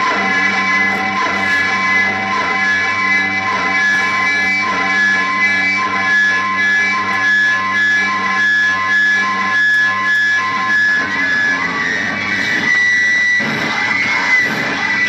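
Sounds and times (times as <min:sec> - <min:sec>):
droning guitar music: 0:00.0 - 0:15.0.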